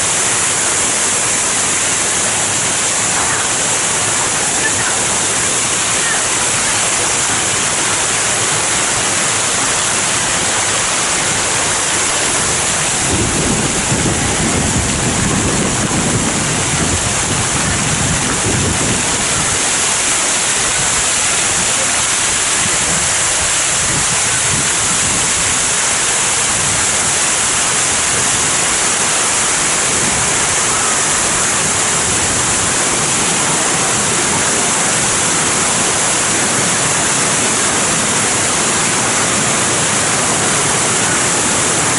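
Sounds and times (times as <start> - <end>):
fountain water cascading: 0.0 - 41.9.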